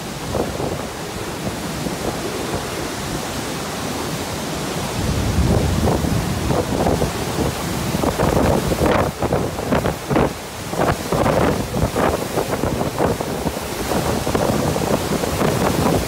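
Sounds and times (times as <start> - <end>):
driving rain: 0.0 - 16.0
storm wind gusts: 0.0 - 16.0
wind buffeting microphone: 0.0 - 16.0.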